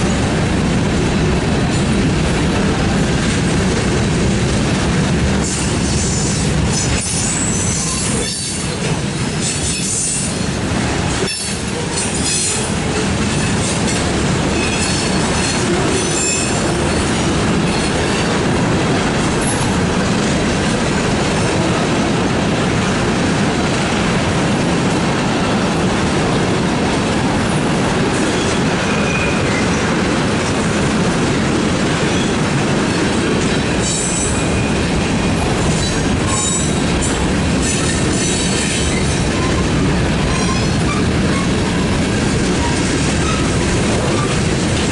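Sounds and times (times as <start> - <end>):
steel wheels rolling on rail: 0.0 - 44.9.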